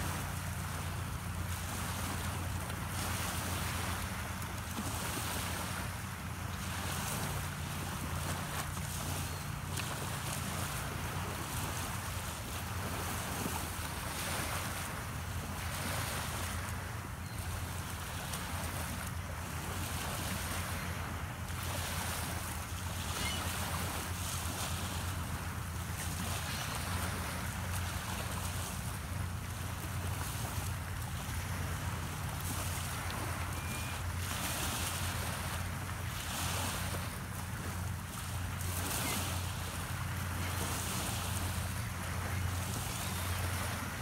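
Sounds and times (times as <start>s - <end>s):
small waves washing onto shore: 0.0s - 44.0s.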